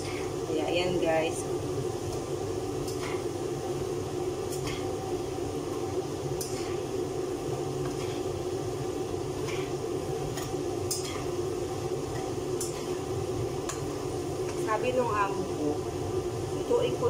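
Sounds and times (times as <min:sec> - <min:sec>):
food frying in oil: 0:00.0 - 0:17.0
steady low hum: 0:00.0 - 0:17.0.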